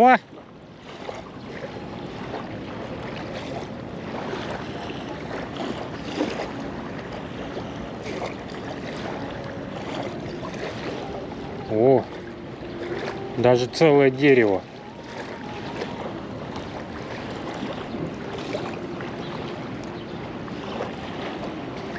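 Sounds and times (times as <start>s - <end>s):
waves lapping on shore: 0.0s - 21.9s.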